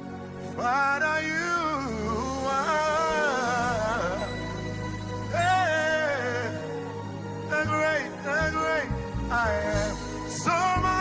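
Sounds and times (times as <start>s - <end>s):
bass and keyboard chords: 0.0s - 11.0s.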